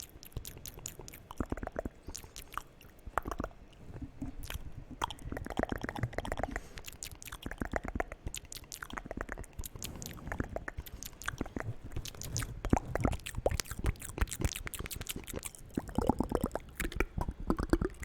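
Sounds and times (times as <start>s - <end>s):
wet mouth clicks and smacks: 0.0s - 18.0s.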